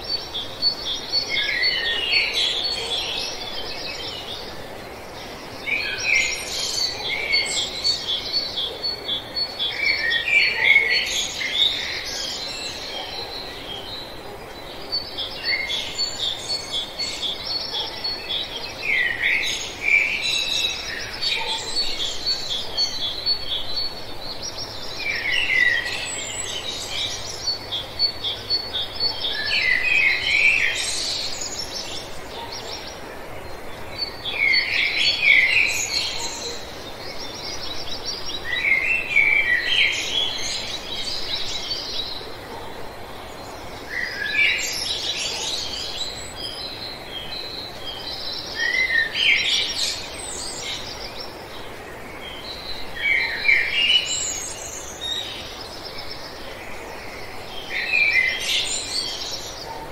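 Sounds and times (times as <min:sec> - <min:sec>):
birds singing: 0:00.0 - 0:59.9
steady background hiss: 0:00.0 - 0:59.9.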